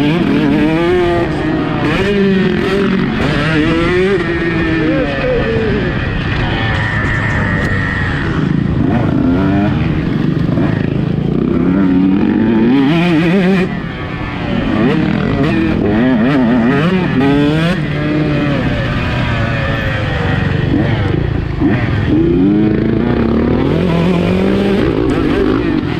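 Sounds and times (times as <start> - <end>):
motocross bike engine revving: 0.0 - 25.9.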